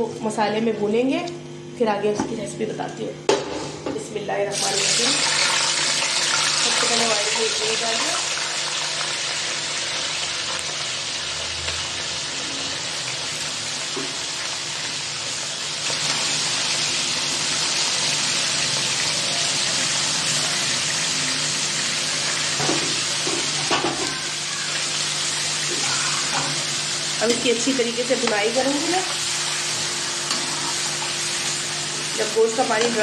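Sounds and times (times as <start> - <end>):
meat sizzling in hot oil: 4.5 - 33.0.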